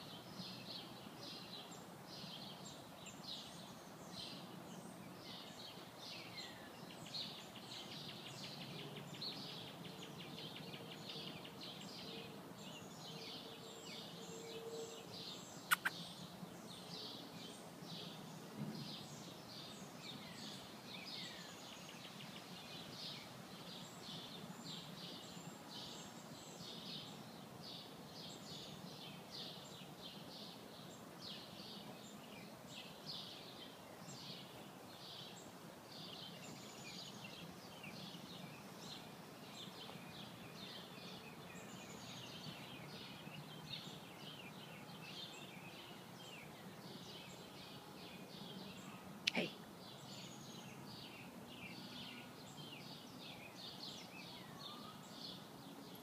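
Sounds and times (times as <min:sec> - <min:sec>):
birds chirping and singing: 0:00.4 - 0:16.2, 0:18.9 - 0:56.0.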